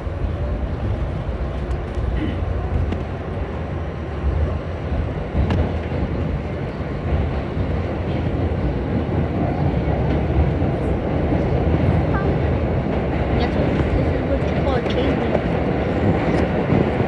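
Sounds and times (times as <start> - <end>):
subway wheels rumbling on track: 0.0 - 17.0.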